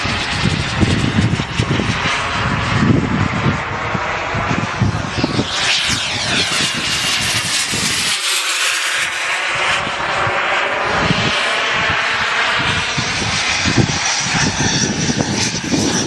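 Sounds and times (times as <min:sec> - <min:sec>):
model jet turbine whine: 0:00.0 - 0:16.0
wind buffeting microphone: 0:00.0 - 0:16.0.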